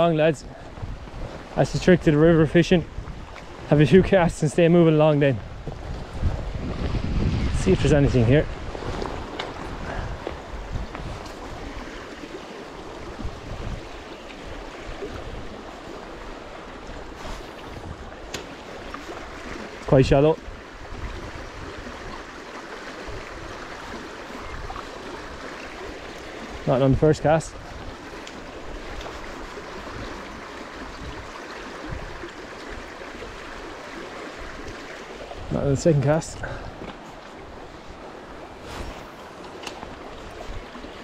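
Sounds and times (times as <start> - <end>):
river running over stones: 0.0 - 41.0
wind rumbling on microphone: 0.0 - 41.0.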